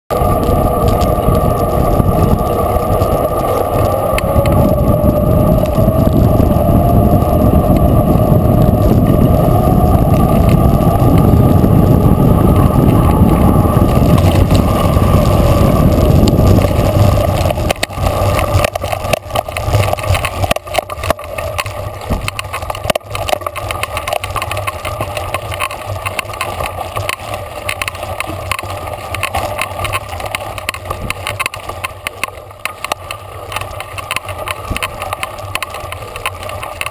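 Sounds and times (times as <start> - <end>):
bike rattling over gravel: 0.1 - 36.9
tyre hum on asphalt: 0.1 - 36.9
wind rumble on camera: 0.1 - 36.9.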